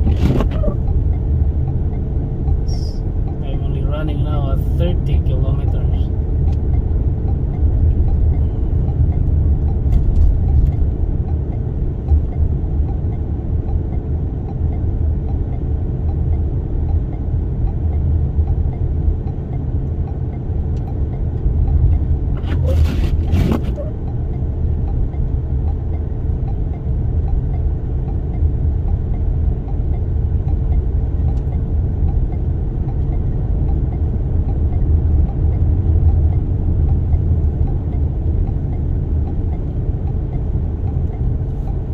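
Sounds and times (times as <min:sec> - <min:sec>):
car engine rumble: 0:00.0 - 0:41.9.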